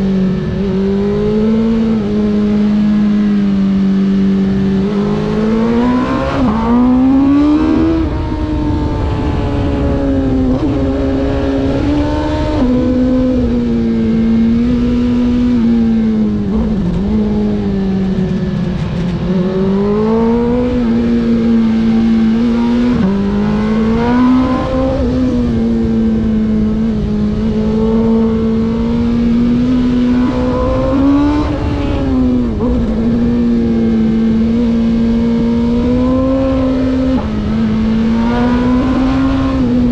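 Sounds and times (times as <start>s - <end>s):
racing engine revving: 0.0s - 39.9s.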